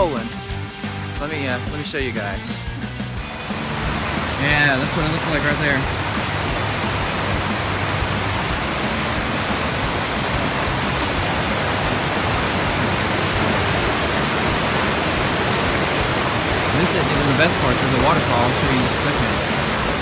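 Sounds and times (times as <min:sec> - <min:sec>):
river rushing: 0:03.1 - 0:20.0.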